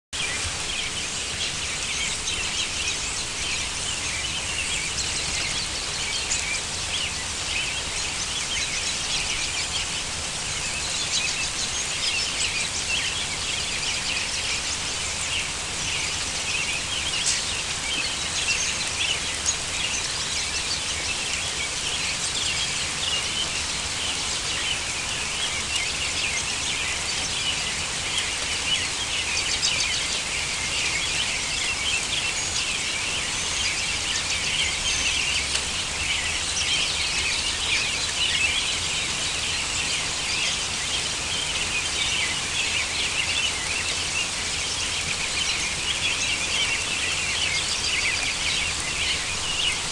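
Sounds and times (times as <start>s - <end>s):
heavy rain hiss: 0.2s - 49.9s
songbirds chirping in chorus: 0.2s - 49.9s.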